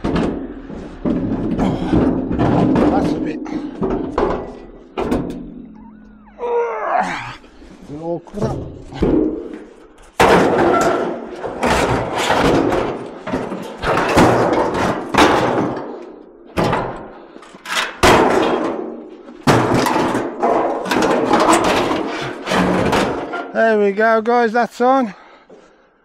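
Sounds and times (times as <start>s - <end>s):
sheet metal clanging: 0.0s - 6.3s, 8.3s - 23.7s.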